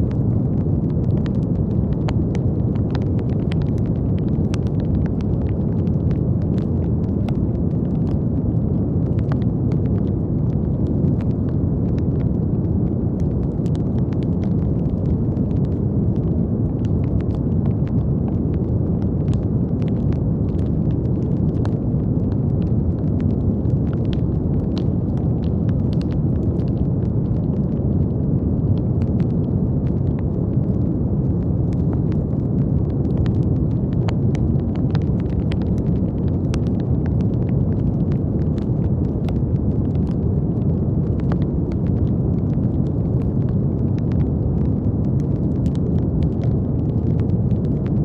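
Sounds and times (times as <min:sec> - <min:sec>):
faint crackling clicks: 0:00.0 - 0:48.0.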